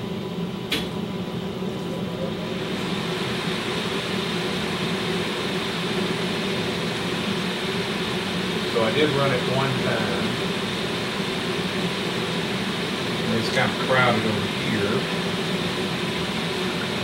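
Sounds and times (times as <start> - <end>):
pump low hum: 0.0 - 17.0
radiator fan blowing air: 0.0 - 17.0.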